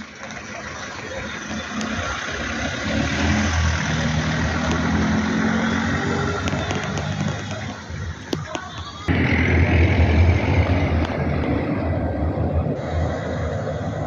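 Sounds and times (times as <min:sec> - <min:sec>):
engine running: 0:00.0 - 0:08.3, 0:09.0 - 0:14.0.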